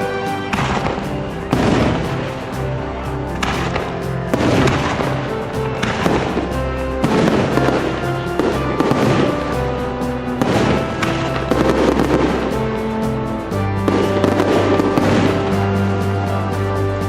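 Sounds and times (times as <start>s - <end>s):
background music: 0.0s - 17.0s
fireworks crackling and bursting: 0.0s - 17.0s.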